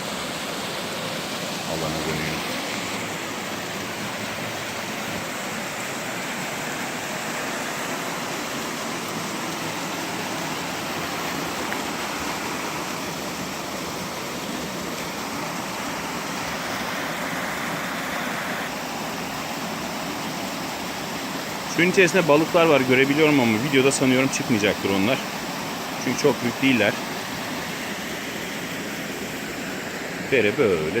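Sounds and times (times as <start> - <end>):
waterfall pouring and splashing: 0.0 - 31.0.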